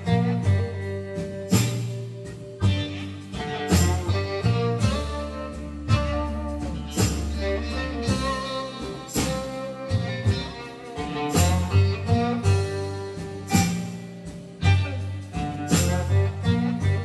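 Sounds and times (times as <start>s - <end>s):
instrumental music with bass beat: 0.0s - 17.0s.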